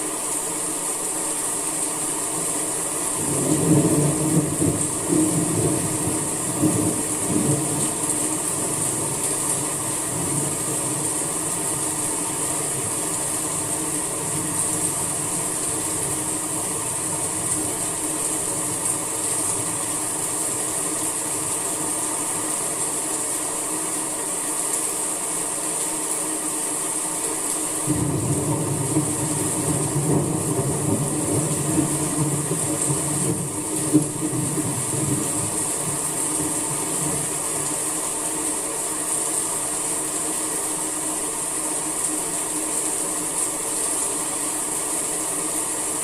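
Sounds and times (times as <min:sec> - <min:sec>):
steady rain falling: 0:00.0 - 0:46.0.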